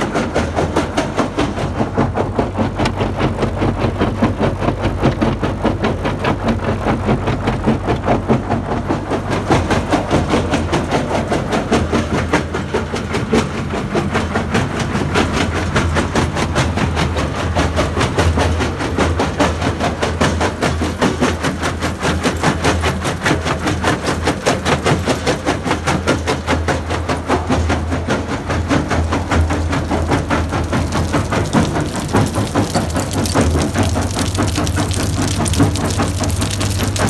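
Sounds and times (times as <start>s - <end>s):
tractor engine drone: 0.0s - 37.0s.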